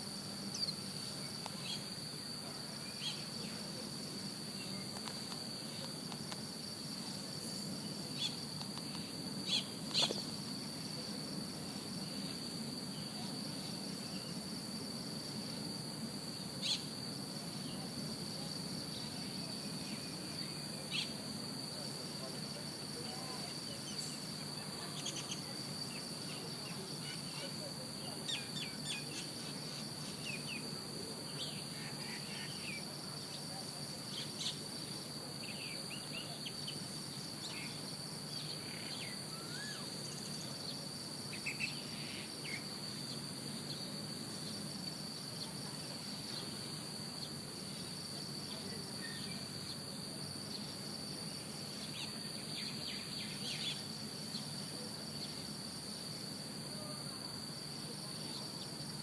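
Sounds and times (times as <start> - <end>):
high-pitched insect trill: 0.0 - 59.0.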